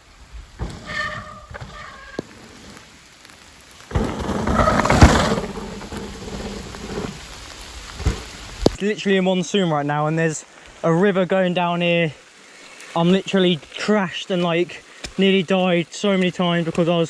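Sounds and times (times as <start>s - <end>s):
heavy rain: 0.0s - 15.2s.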